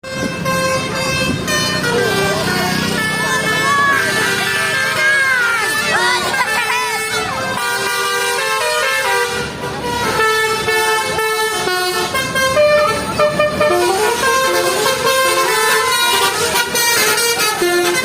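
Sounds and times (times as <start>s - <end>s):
bus musical horn playing a tune: 0.0s - 18.0s.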